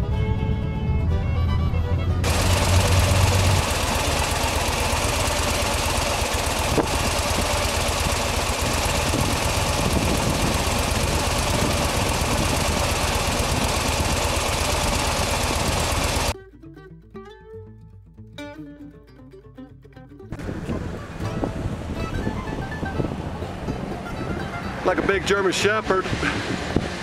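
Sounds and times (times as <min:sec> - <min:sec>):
engine running: 0:00.9 - 0:16.4, 0:20.4 - 0:27.0.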